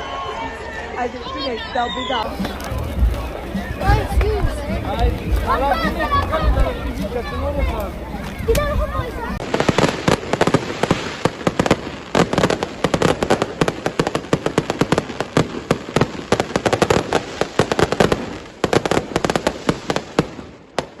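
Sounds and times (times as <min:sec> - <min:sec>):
fireworks and firecrackers banging: 0:02.0 - 0:21.0.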